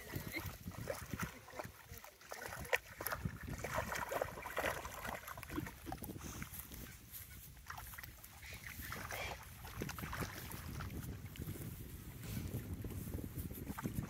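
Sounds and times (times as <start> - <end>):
dog splashing through water: 0.0 - 11.7.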